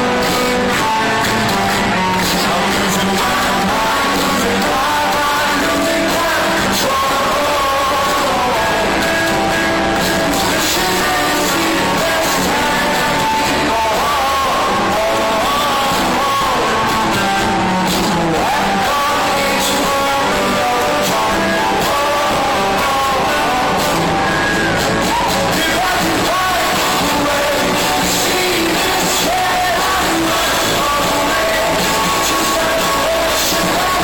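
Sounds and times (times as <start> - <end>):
lead singer: 0.0 - 34.0
rock band playing live: 0.0 - 34.0.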